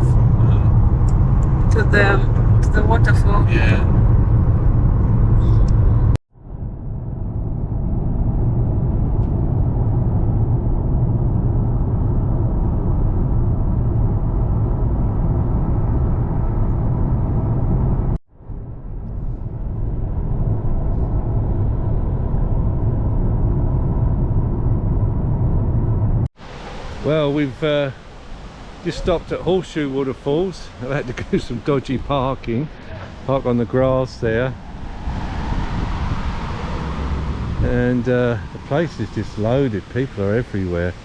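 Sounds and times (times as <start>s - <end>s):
car driving at speed: 0.0s - 27.0s, 30.7s - 41.0s.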